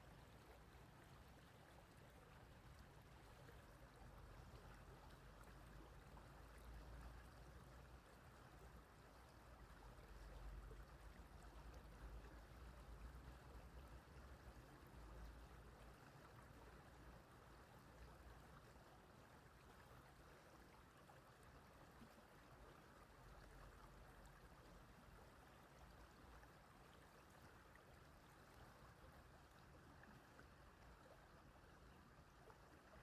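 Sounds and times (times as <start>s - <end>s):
stream running over stones: 0.0s - 33.0s.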